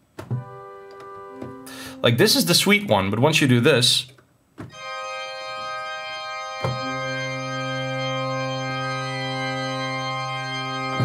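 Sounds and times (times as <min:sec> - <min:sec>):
deep bass organ notes: 0:00.3 - 0:03.6, 0:04.7 - 0:11.0
sustained organ chord: 0:00.4 - 0:02.9, 0:04.7 - 0:11.0.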